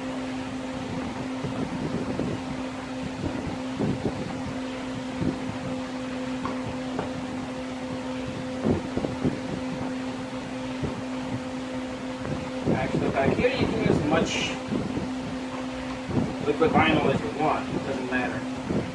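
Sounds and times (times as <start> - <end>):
fan motor humming: 0.0 - 18.9.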